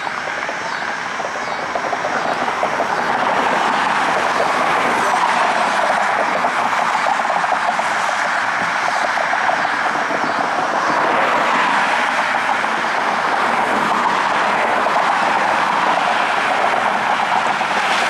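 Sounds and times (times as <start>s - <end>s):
traffic road noise: 0.0s - 18.0s.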